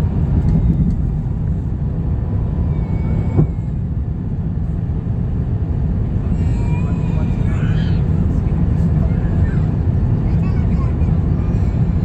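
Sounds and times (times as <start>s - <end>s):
airliner low rumble: 0.0s - 12.0s.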